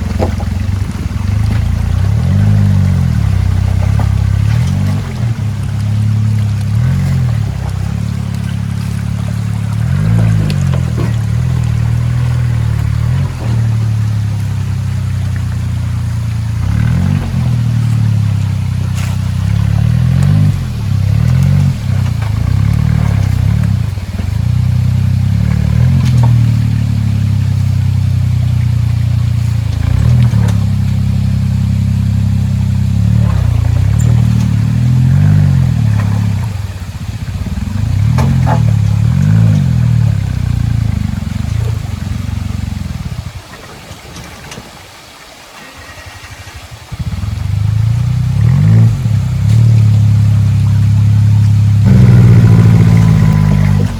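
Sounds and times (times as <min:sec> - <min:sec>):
car engine revving: 0:00.0 - 0:43.4, 0:46.8 - 0:53.9.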